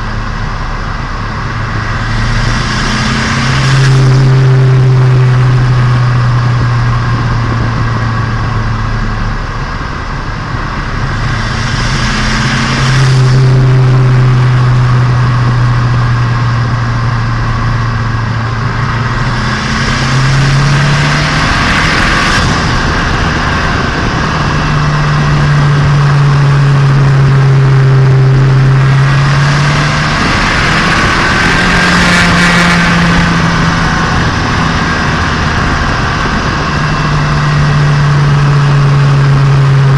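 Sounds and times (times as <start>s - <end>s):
car engine accelerating: 0.0s - 39.9s
rushing air noise: 0.0s - 39.9s.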